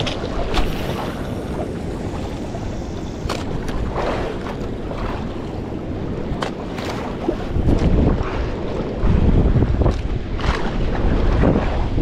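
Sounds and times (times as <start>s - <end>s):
water splashing against boat: 0.0s - 12.0s
wind buffeting microphone: 0.0s - 12.0s.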